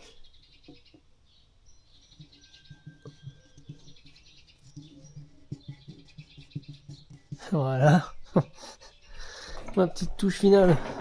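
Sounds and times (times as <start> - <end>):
faint chirping: 0.0 - 10.5.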